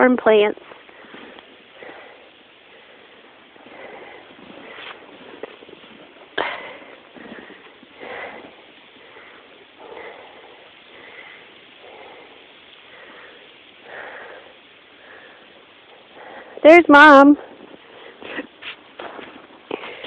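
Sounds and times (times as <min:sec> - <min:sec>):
person breathing and sniffing: 0:00.7 - 0:16.6, 0:17.5 - 0:20.0.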